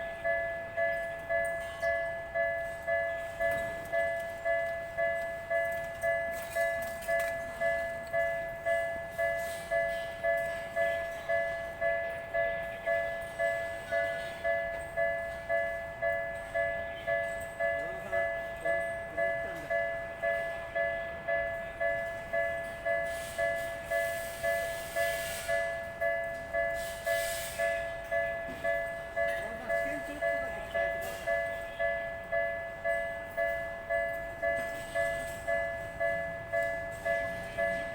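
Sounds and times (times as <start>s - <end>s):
level crossing two-tone bell: 0.0s - 37.9s.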